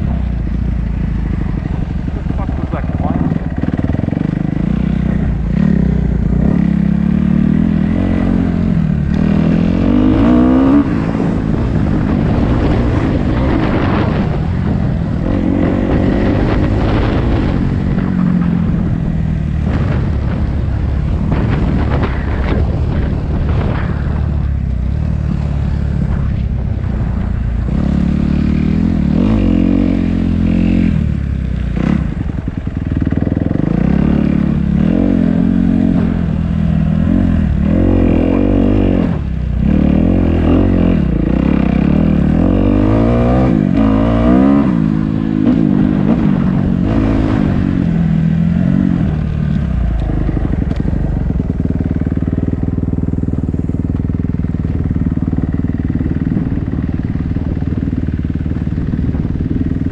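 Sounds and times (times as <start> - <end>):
dirt bike engine revving: 1.2 - 53.1.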